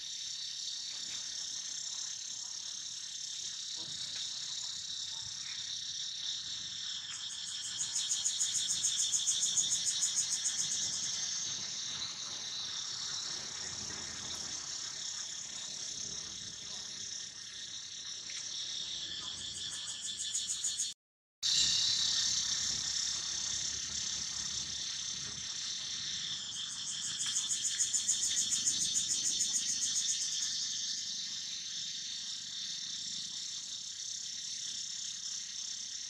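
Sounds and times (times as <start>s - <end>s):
insects buzzing and trilling: 0.0s - 36.0s.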